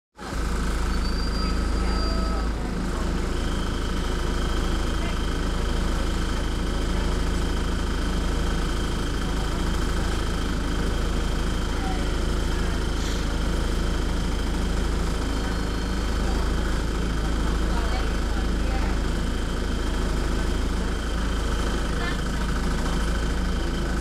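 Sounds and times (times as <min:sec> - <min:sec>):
diesel bus engine idling: 0:00.2 - 0:24.0.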